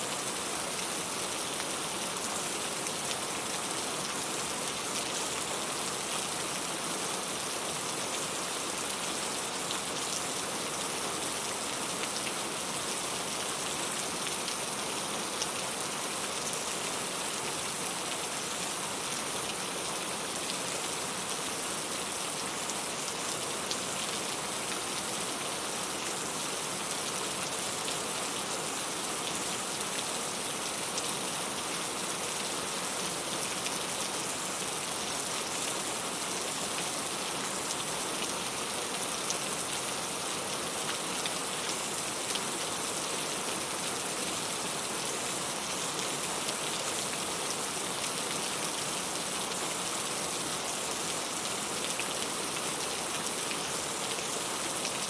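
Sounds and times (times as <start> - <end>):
rain pattering on a surface: 0.1 - 55.0.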